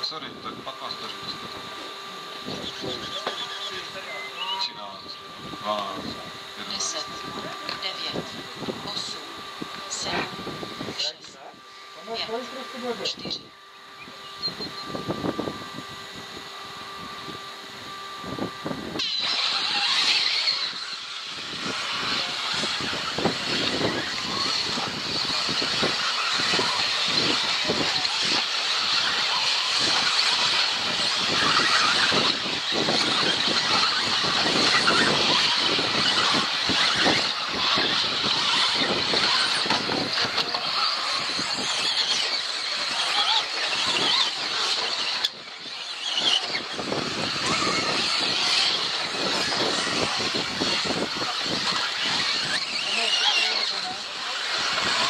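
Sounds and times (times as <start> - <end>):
toy car motors whining: 0.0 - 55.0.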